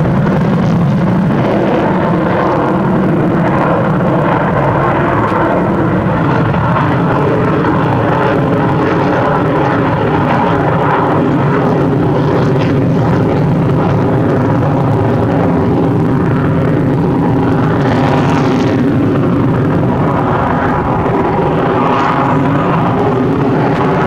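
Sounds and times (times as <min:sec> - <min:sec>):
loud jet engine noise: 0:00.0 - 0:24.0.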